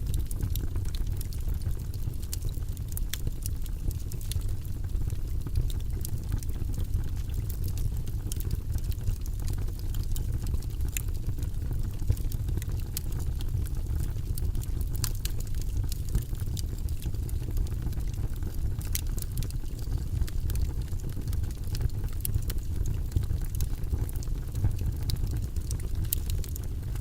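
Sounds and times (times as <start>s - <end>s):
burning logs crackling: 0.0s - 27.0s
fire flame rumble: 0.0s - 27.0s.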